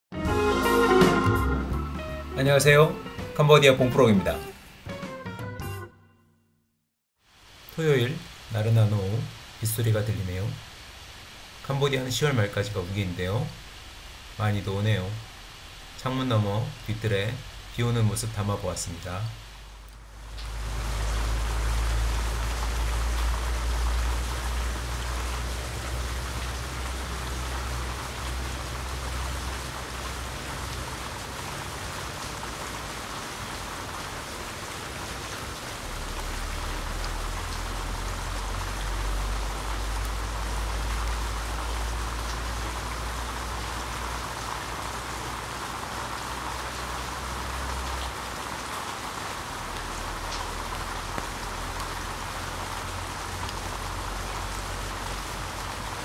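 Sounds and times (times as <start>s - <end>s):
rain falling on grass and water: 2.0s - 4.9s, 7.2s - 56.0s.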